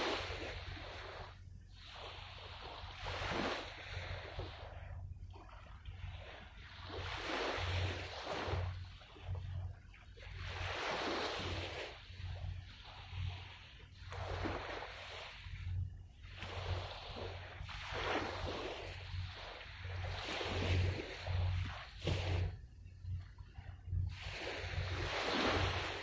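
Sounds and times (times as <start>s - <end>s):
sea waves washing on shore: 0.0s - 26.0s
wind rumbling on microphone: 0.0s - 26.0s.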